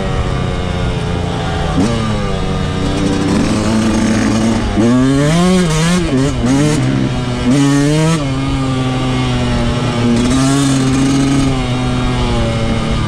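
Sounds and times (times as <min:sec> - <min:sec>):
dirt bike engine revving: 0:01.4 - 0:13.0.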